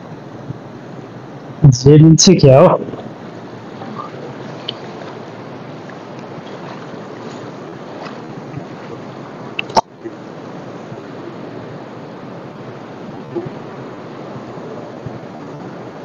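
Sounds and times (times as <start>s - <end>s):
river rushing over rocks: 3.0s - 16.0s.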